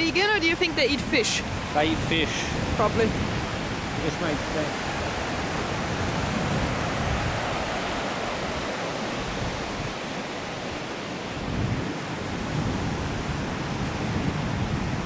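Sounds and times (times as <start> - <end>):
ocean surf on sandy beach: 0.0 - 15.0
wind: 0.0 - 15.0.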